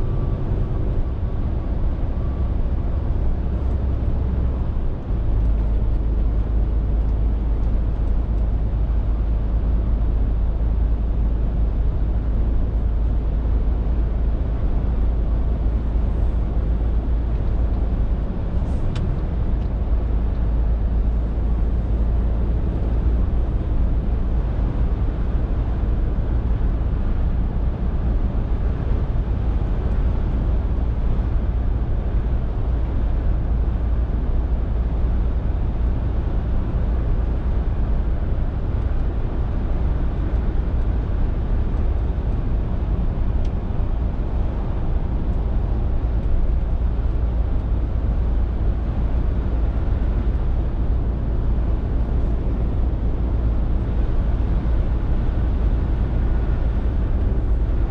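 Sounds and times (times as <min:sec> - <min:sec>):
lorry diesel engine drone: 0:00.0 - 0:57.9
road noise: 0:00.0 - 0:57.9.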